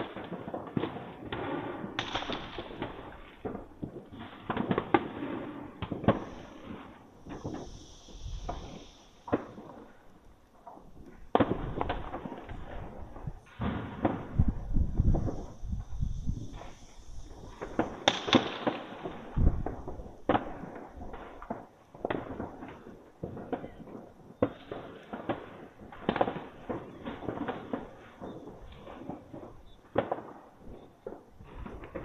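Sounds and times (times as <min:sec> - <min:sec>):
firework crackling: 0:00.0 - 0:32.0
fireworks bangs: 0:00.0 - 0:32.0.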